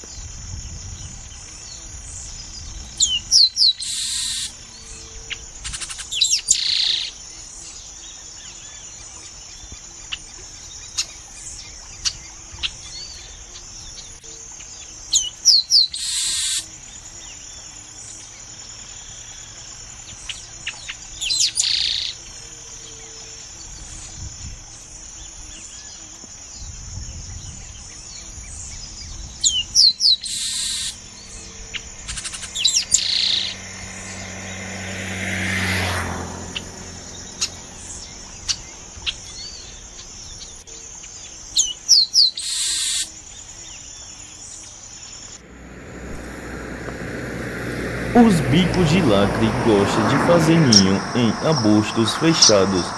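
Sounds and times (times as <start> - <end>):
bird song with harsh buzz: 0.0 - 52.9
high insect drone: 0.0 - 52.9.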